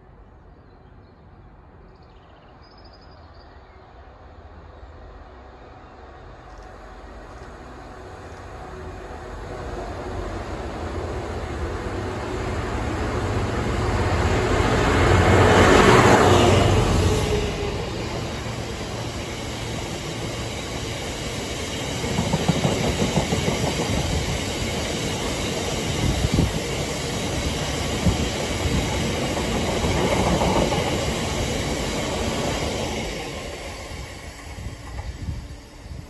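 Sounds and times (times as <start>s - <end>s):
freight train rolling past: 3.5s - 36.0s.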